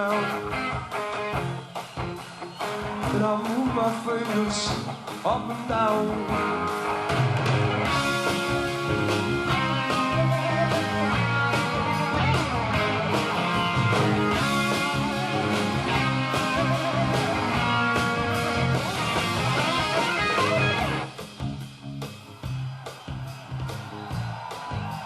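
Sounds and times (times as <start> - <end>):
upbeat guitar rock instrumental: 0.0 - 25.0.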